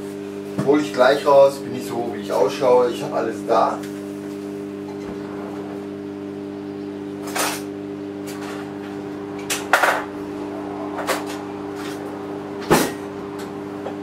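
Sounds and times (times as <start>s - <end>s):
kitchen appliance humming: 0.0s - 14.0s.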